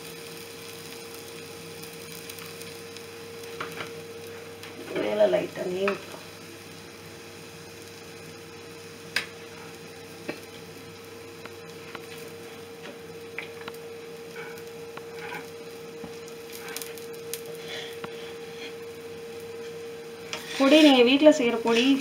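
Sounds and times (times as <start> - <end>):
faint hum: 0.0 - 22.0
food sizzling on hot griddle: 0.0 - 22.0.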